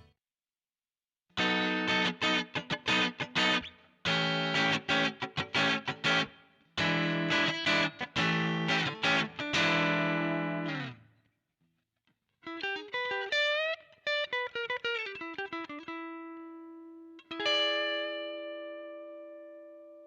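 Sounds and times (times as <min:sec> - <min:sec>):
electric guitar playing: 0:01.4 - 0:11.1, 0:12.5 - 0:20.0.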